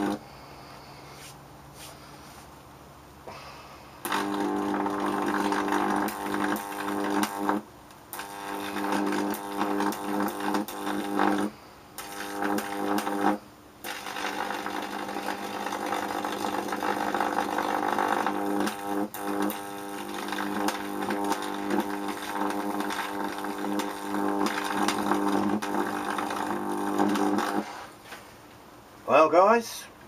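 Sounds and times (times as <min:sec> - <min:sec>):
electric arc buzzing and crackling: 0:00.0 - 0:00.2, 0:04.0 - 0:28.0.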